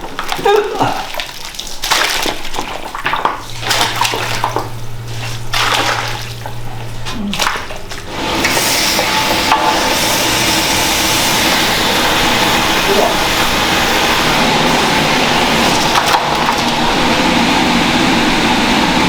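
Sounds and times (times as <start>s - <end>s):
metal pots clattering: 0.0s - 17.0s
water sloshing and splashing: 0.0s - 17.6s
low steady hum: 0.0s - 19.0s.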